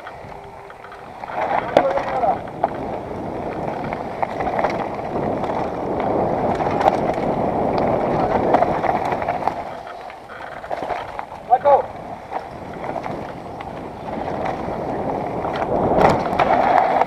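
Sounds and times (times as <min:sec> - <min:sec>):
bike knocking on stones: 0:00.0 - 0:17.0
bike tyres crunching on dirt: 0:00.0 - 0:17.0.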